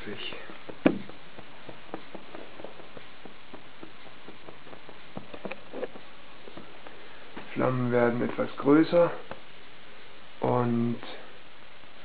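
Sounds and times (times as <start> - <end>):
burner hissing: 0.0 - 12.0
pot ticking and crackling: 0.0 - 12.0.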